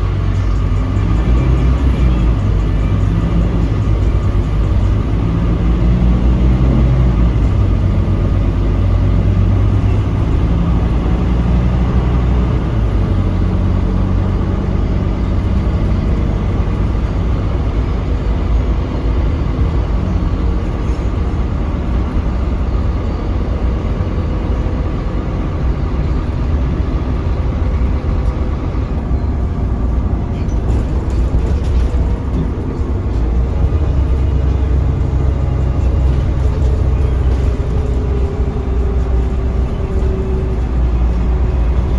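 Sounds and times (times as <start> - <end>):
bus diesel engine rumble: 0.0 - 41.9
road and tyre noise: 0.0 - 41.9.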